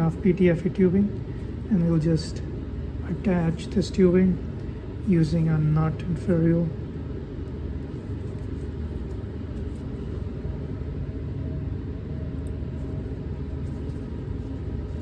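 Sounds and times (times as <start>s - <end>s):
low room hum and rumble: 0.0s - 15.0s.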